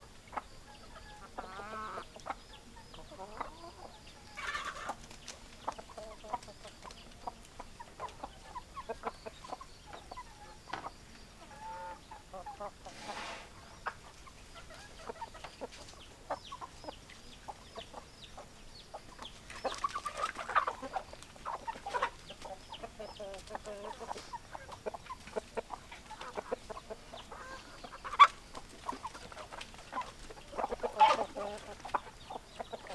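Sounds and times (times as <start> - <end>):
chickens clucking: 0.0 - 32.9
chickens squawking: 0.3 - 15.6, 16.3 - 32.9.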